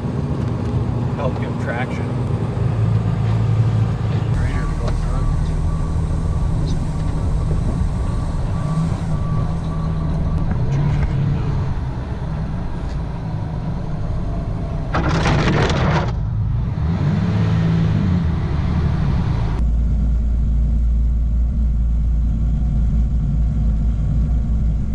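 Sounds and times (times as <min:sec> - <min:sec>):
heavy truck engines running: 0:00.0 - 0:24.9.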